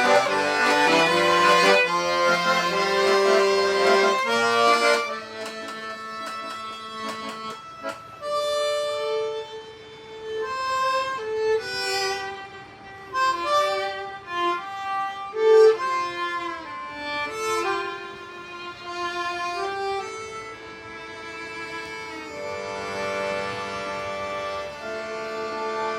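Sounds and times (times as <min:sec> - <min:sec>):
violin playing slow melody: 0:00.0 - 0:25.9.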